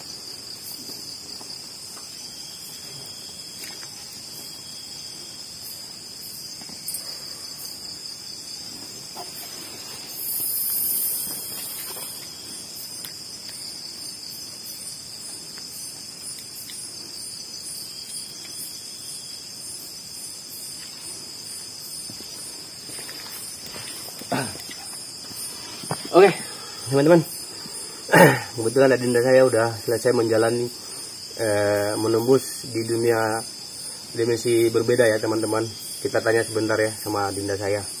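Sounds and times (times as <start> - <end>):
crickets trilling: 0.0 - 38.0
high-pitched insect buzz: 0.0 - 38.0.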